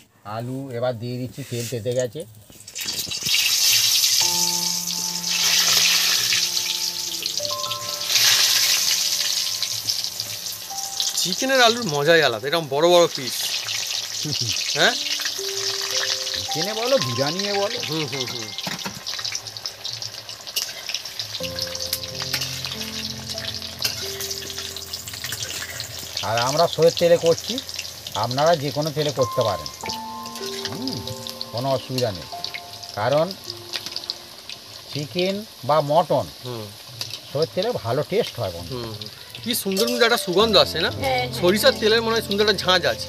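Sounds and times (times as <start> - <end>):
potatoes sizzling in oil: 1.4 - 43.0
background music with held notes: 4.1 - 35.7, 36.8 - 43.0.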